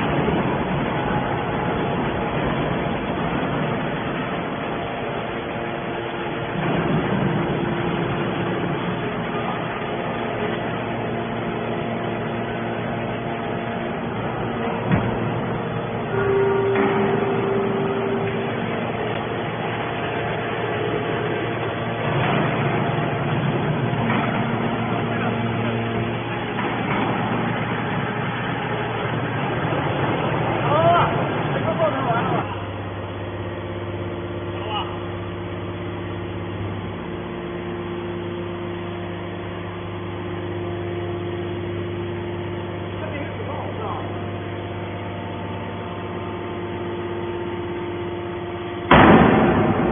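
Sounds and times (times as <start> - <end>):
held mechanical whine: 0.0 - 43.0
baler motor humming: 0.0 - 49.9
baling machine drone: 0.0 - 49.9.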